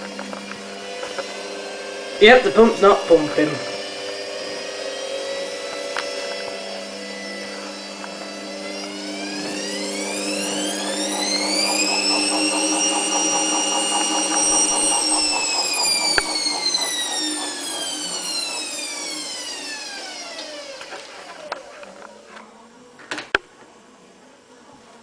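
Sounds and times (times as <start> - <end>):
steady hum: 0.0 - 22.9
washing machine motor whine: 0.0 - 22.9.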